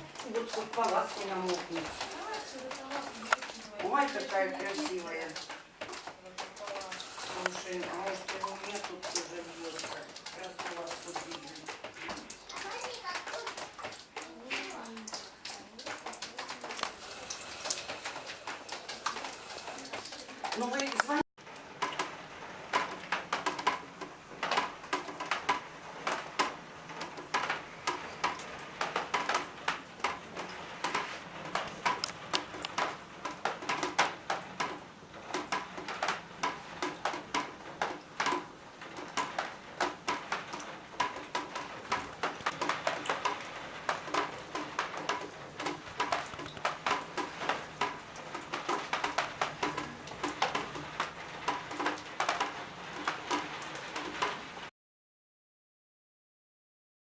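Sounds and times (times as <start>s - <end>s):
water dripping and splashing: 0.0s - 54.7s.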